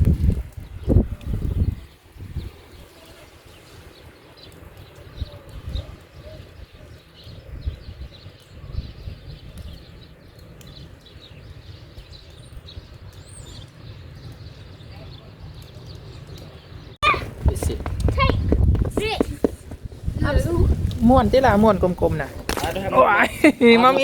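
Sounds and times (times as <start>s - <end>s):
wind rumbling on microphone: 0.0s - 23.4s.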